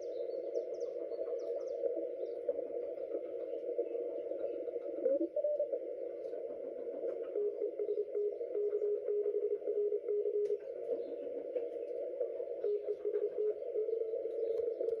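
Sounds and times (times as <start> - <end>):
pulsing steady tone: 0.0 - 15.0
radio hiss and crackles: 0.0 - 15.0.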